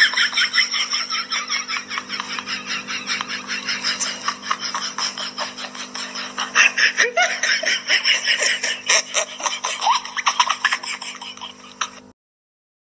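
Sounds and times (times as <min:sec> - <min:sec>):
stifled giggling: 0:00.0 - 0:12.1.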